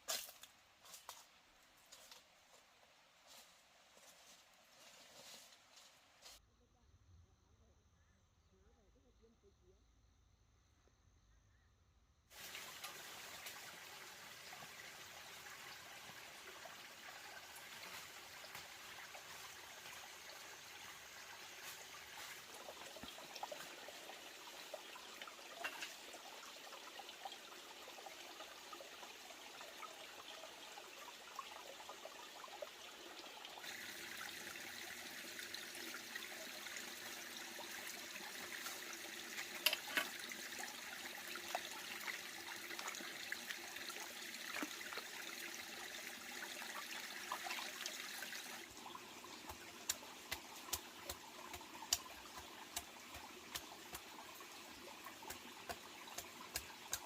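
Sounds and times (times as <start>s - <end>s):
faint water trickling: 0.0s - 6.4s, 12.3s - 57.0s.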